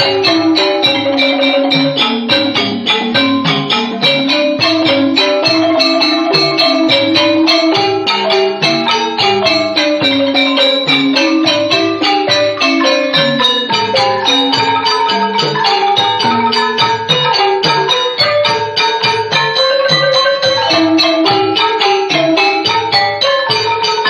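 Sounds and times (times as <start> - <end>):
wooden xylophones: 0.0 - 24.0.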